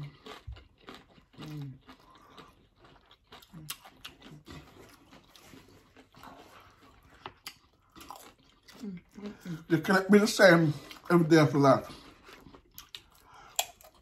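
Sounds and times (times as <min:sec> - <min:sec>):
mouths chewing: 0:00.0 - 0:14.0.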